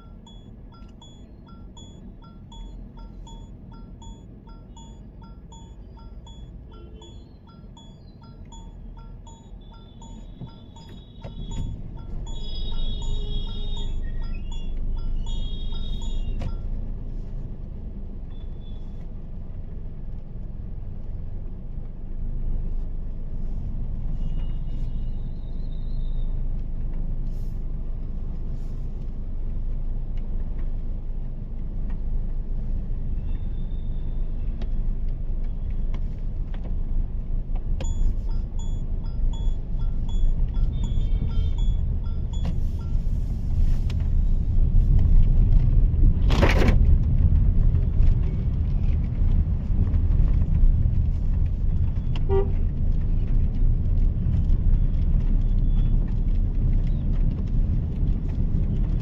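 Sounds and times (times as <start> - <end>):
car engine and tyres on wet road: 0.0 - 59.0.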